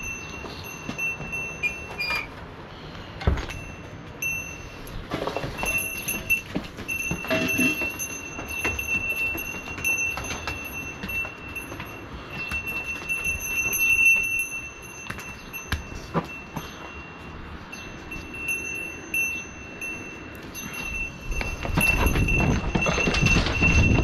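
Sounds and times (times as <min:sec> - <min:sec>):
small metal bell ringing: 0:00.0 - 0:02.4, 0:03.4 - 0:24.0.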